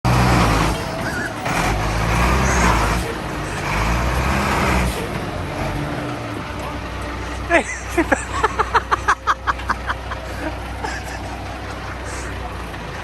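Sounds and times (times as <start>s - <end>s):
motor vehicle engines droning: 0.0s - 13.0s.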